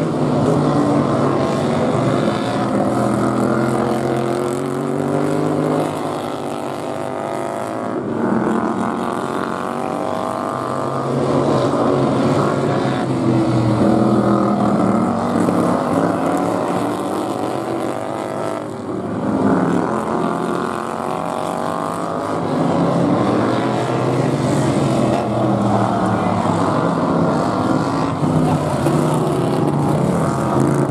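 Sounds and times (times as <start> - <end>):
lawn mower engines revving: 0.0 - 30.9.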